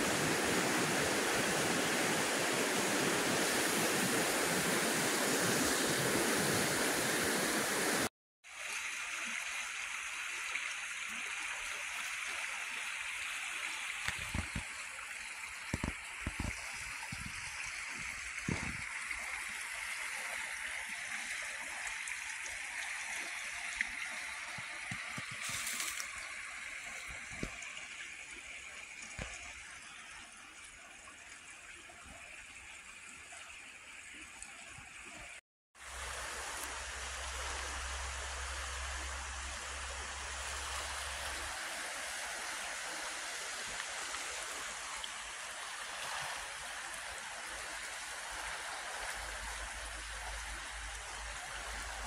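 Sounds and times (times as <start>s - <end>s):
creek water rushing: 0.0s - 52.0s.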